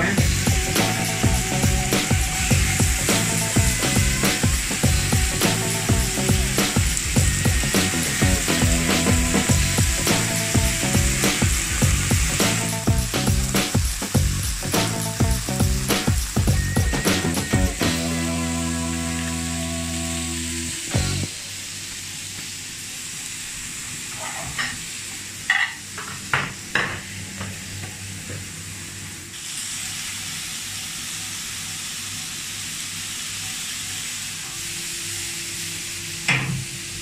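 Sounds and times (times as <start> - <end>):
food sizzling on a grill: 0.0 - 37.0.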